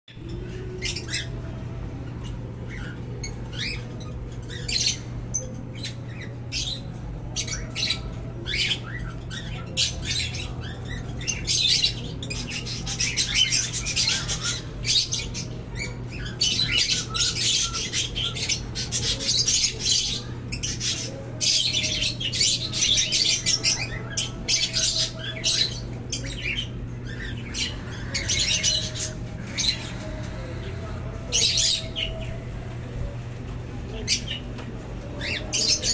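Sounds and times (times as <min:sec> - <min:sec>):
low steady hum: 0:00.1 - 0:35.9
chicks squawking: 0:00.2 - 0:35.9.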